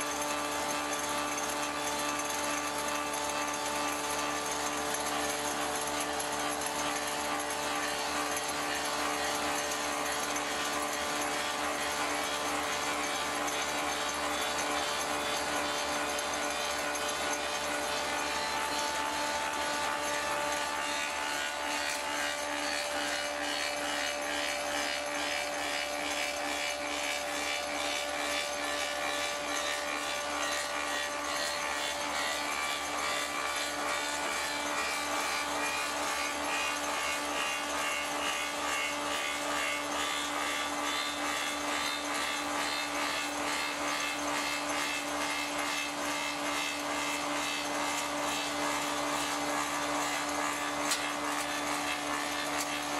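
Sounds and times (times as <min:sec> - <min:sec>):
lathe cutting wood: 0:00.0 - 0:52.9.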